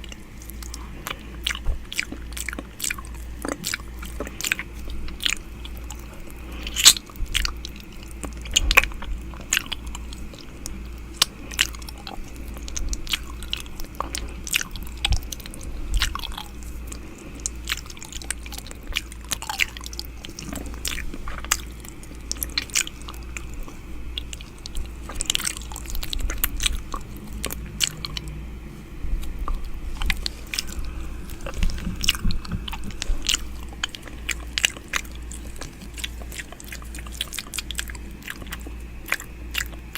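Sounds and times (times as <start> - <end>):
faint low hum: 0.0 - 39.9
wet mouth sounds: 0.0 - 39.9.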